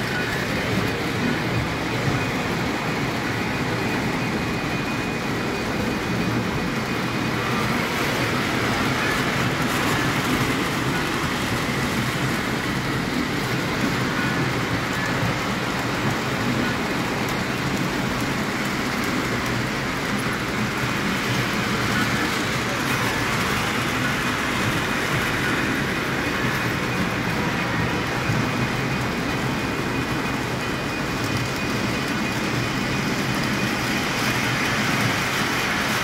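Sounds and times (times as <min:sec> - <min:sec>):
model trains rolling on track: 0:00.0 - 0:36.0.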